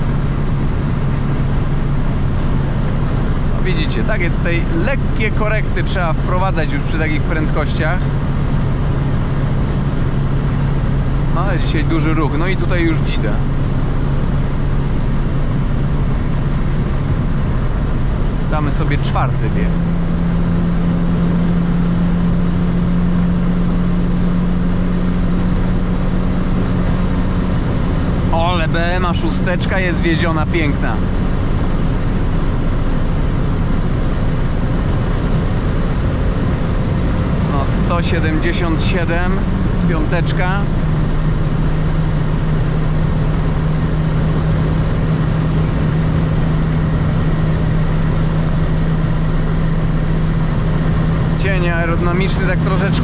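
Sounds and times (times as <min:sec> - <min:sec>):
car engine droning at high revs: 0:00.0 - 0:53.0
wind and road noise: 0:00.0 - 0:53.0.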